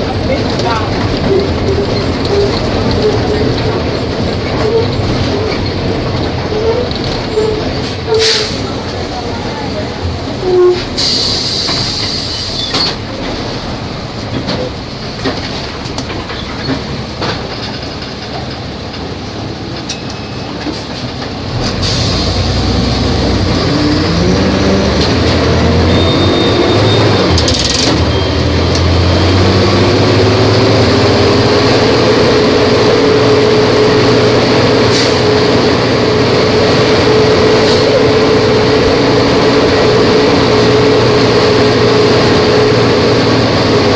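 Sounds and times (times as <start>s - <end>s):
bus engine accelerating: 0.0s - 43.9s.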